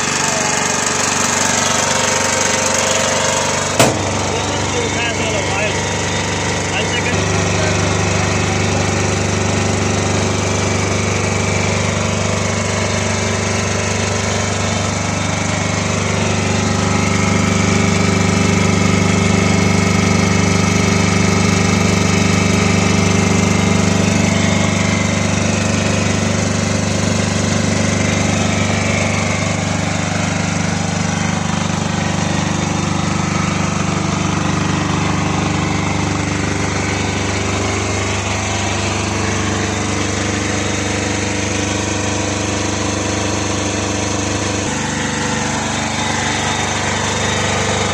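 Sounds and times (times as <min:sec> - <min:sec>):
diesel generator drone: 0:00.0 - 0:47.9.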